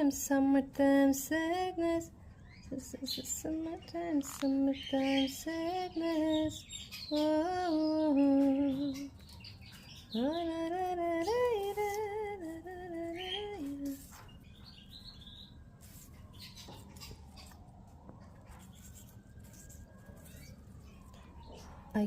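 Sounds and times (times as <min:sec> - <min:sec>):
faint bird chirps: 0:01.8 - 0:22.0.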